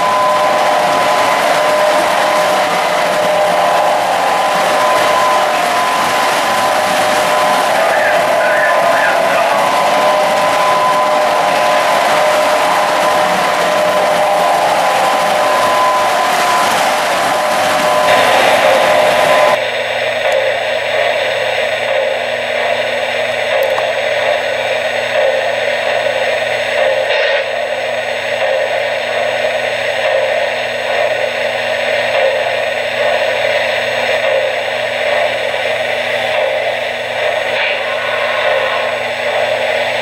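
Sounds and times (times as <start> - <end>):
steady whirring hiss: 0.0 - 40.0.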